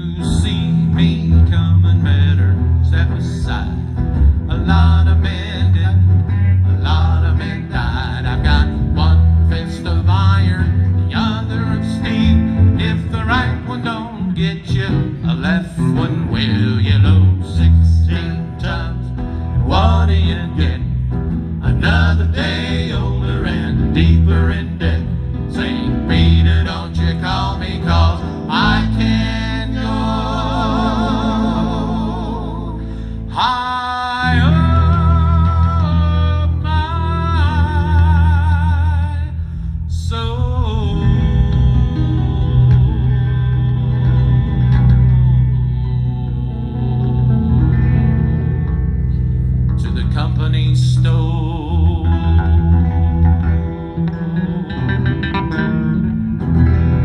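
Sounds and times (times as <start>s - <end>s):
plucked guitar lead: 0.0s - 57.0s
walking double bass line: 0.0s - 57.0s.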